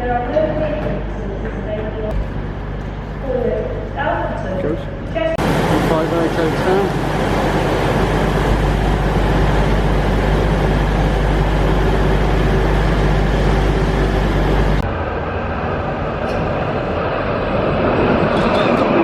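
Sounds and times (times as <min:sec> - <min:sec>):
diesel train engine rumbling: 0:00.0 - 0:19.0.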